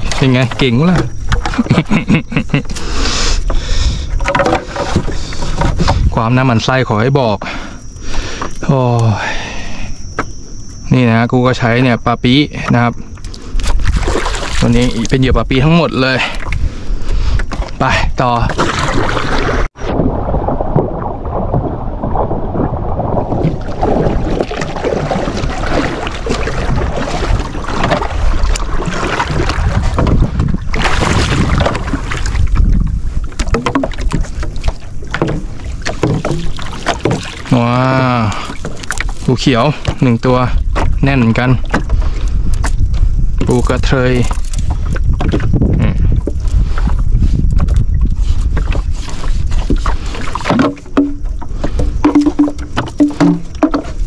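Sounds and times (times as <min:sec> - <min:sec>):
knocks and splashes: 0:00.0 - 0:02.7, 0:03.4 - 0:07.7, 0:12.6 - 0:16.7, 0:17.3 - 0:54.0
small boat under way: 0:00.0 - 0:54.0
wind buffeting microphone: 0:03.3 - 0:06.9, 0:11.5 - 0:54.0.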